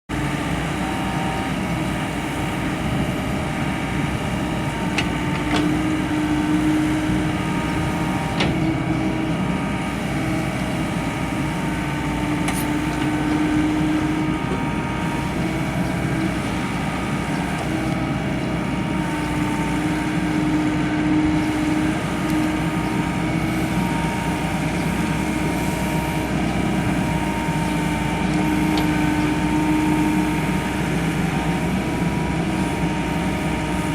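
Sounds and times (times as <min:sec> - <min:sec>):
diesel excavator engine running: 0:00.1 - 0:33.9
engine whine: 0:00.1 - 0:33.9.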